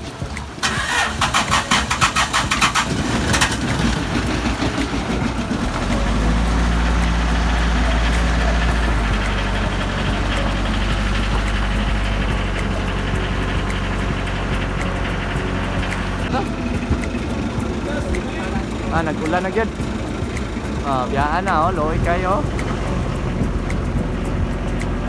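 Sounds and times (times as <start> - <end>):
boat engine starting and idling: 0.0 - 25.0.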